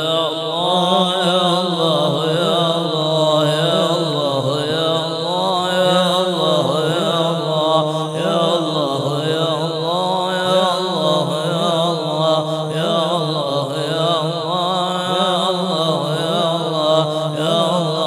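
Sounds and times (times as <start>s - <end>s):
voices chanting together: 0.0s - 18.0s.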